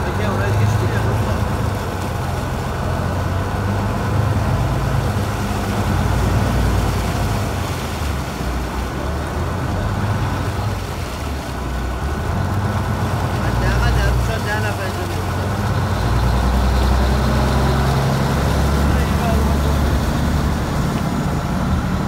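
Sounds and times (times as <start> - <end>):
boat engine drone: 0.0 - 22.0
water rushing along hull: 0.0 - 22.0.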